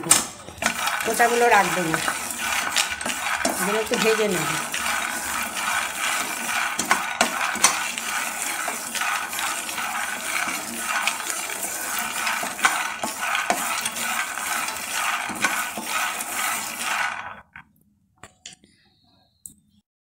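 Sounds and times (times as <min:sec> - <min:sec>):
nuts rattling in a pan: 0:00.0 - 0:17.4.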